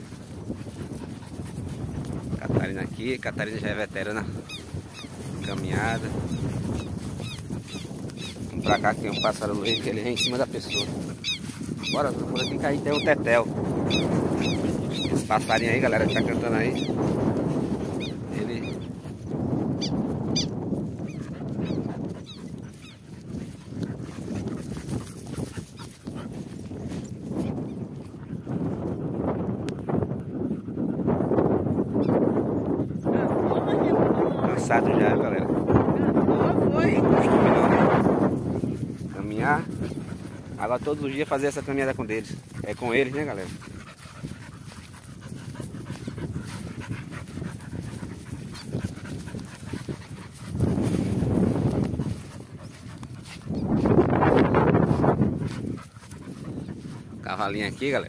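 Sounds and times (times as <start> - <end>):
dogs panting: 0.0 - 58.0
wind rumbling on microphone: 0.0 - 58.0.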